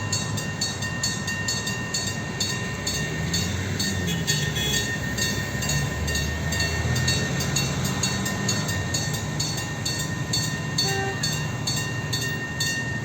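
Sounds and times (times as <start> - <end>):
diesel railcar engine drone: 0.0 - 13.0.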